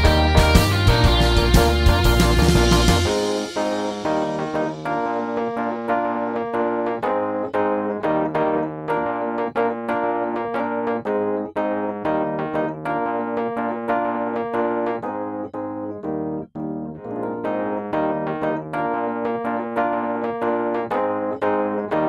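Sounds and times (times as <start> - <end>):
gentle keyboard music: 0.0 - 22.0.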